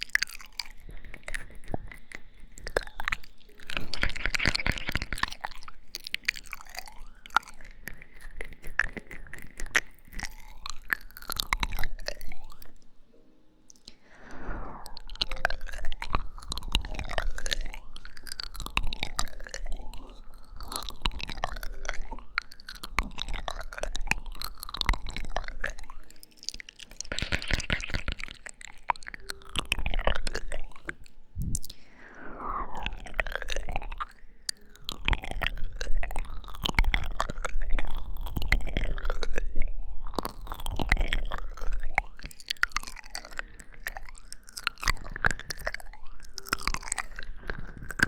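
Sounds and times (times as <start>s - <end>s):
tongue clicks: 0.0s - 12.9s, 13.6s - 48.0s.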